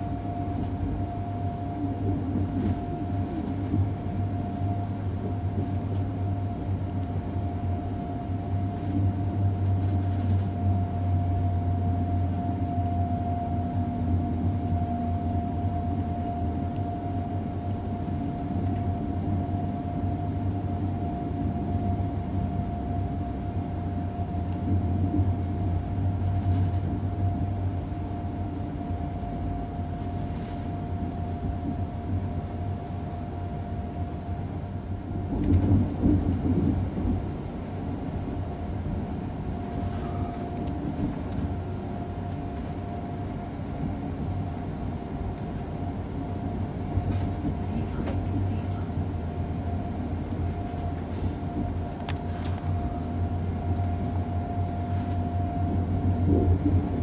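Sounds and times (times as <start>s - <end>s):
mid-pitched hum: 0.0s - 57.0s
train low rumble: 0.0s - 57.0s.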